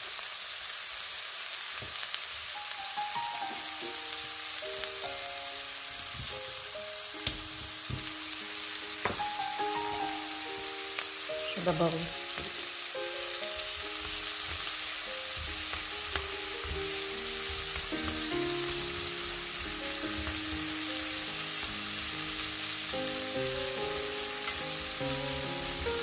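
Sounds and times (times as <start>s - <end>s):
squid sizzling in a frying pan: 0.0s - 26.0s
soft background music: 2.6s - 26.0s.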